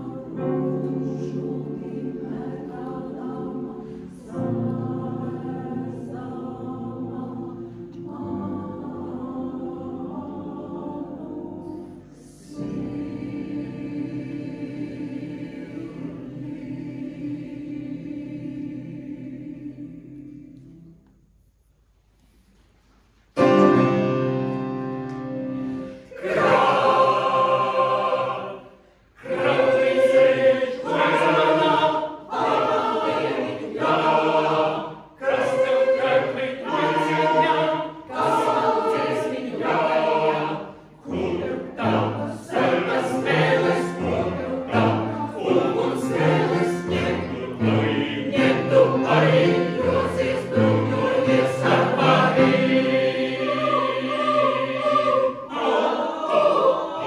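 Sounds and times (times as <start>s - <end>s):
mixed choir singing: 0.0s - 21.1s, 25.5s - 57.0s.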